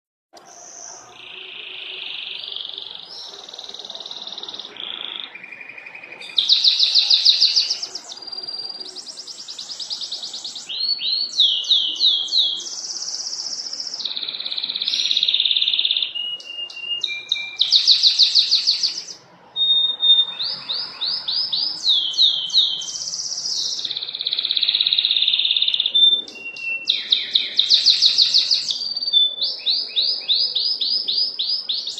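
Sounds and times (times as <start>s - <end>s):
canary singing trills: 0.4s - 31.9s.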